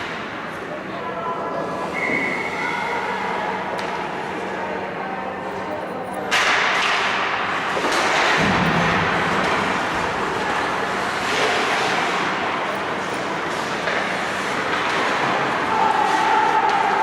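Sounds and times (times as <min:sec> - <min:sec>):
skating and arena noise: 0:00.0 - 0:17.0
steady humming tone: 0:00.0 - 0:17.0.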